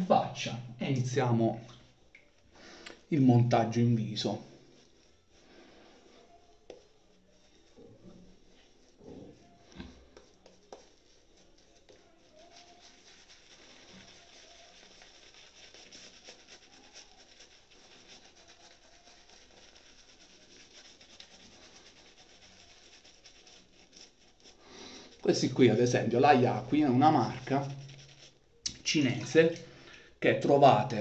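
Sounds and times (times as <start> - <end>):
shaving brush swishing in lather: 3.1 - 29.7.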